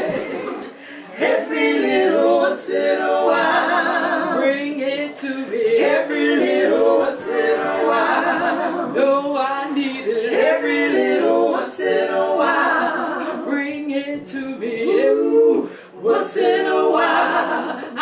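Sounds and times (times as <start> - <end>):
women singing a cappella: 0.0 - 18.0.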